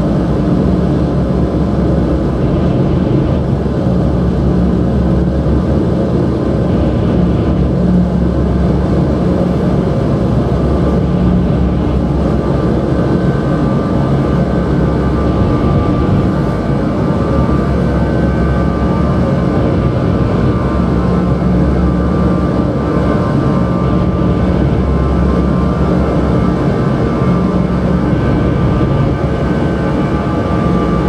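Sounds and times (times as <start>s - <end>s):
low drone music: 0.0s - 31.0s.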